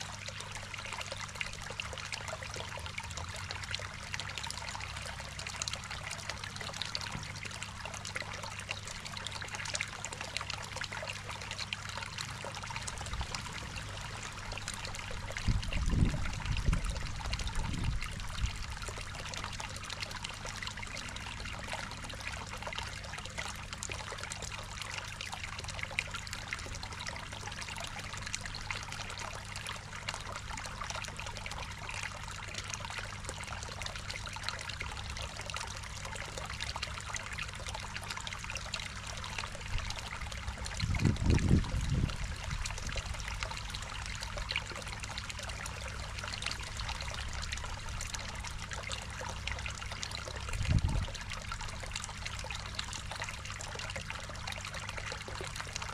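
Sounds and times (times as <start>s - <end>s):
low steady hum: 0.0s - 55.9s
water trickling into a pond: 0.0s - 55.9s.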